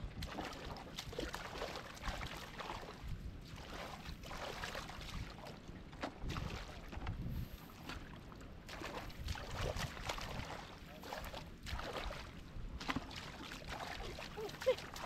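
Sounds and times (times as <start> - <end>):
shallow water splashing: 0.1 - 15.0.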